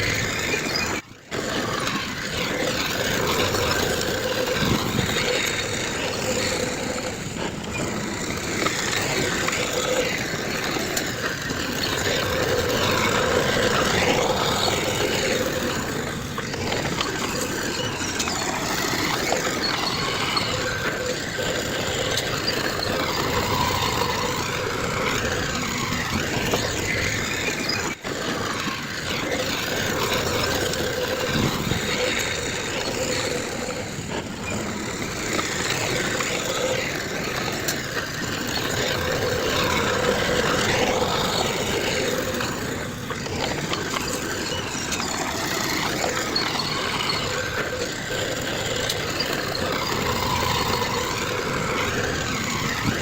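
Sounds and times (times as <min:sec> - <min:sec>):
diesel earthmoving machinery running: 0:00.0 - 0:53.0.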